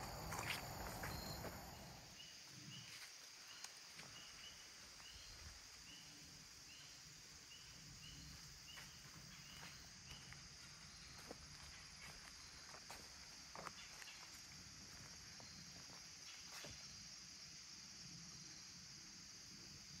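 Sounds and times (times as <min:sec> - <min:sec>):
insect chirping: 0:00.0 - 0:20.0
insects droning: 0:00.0 - 0:20.0.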